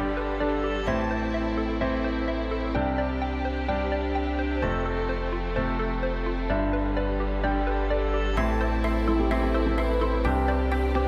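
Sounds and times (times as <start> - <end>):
background music with sustained chords: 0.0 - 11.0.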